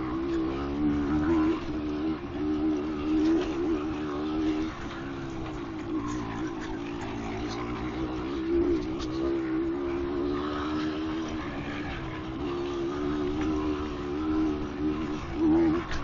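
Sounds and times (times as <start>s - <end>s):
motorcycle two-stroke engine revving: 0.0s - 16.0s.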